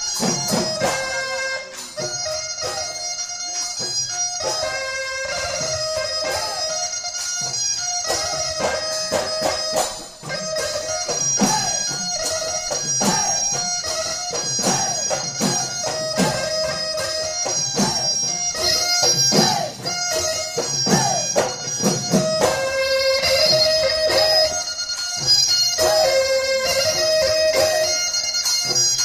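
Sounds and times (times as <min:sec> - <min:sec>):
drums beaten in fast rhythm: 0:00.0 - 0:29.0
reedy wind instrument: 0:00.0 - 0:29.0
ringing cymbals: 0:00.0 - 0:29.0.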